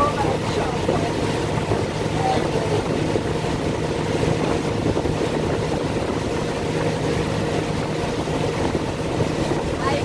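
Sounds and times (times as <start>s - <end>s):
boat engine running: 0.0s - 10.0s
churning wake rushing: 0.0s - 10.0s.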